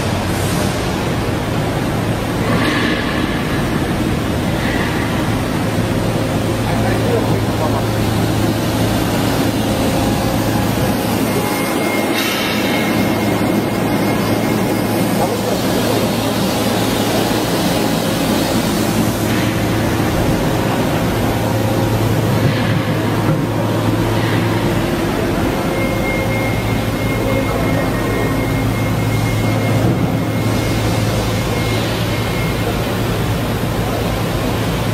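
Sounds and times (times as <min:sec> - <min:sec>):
machine low hum with hiss: 0:00.0 - 0:34.9
faint high whine: 0:04.6 - 0:34.8.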